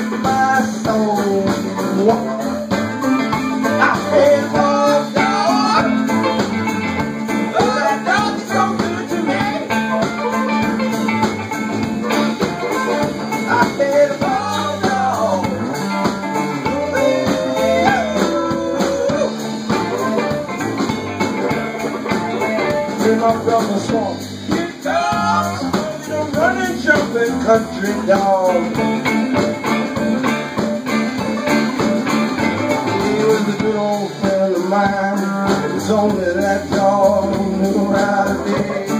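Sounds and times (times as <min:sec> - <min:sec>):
blues band playing live: 0:00.0 - 0:38.9
amplified harmonica: 0:01.5 - 0:23.6, 0:24.2 - 0:33.5.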